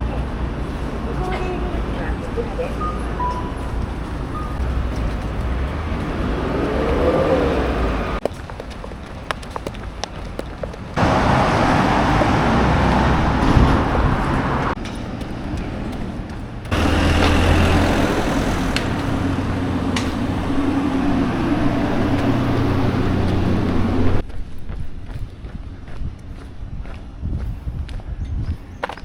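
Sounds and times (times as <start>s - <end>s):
large vehicle engine hum: 0.0s - 8.2s, 8.9s - 24.4s
road traffic: 0.0s - 29.0s.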